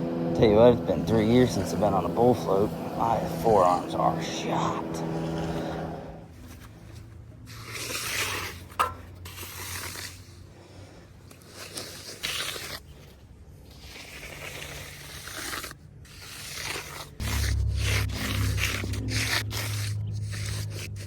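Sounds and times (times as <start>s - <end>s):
float scraping wet concrete: 0.0s - 21.0s.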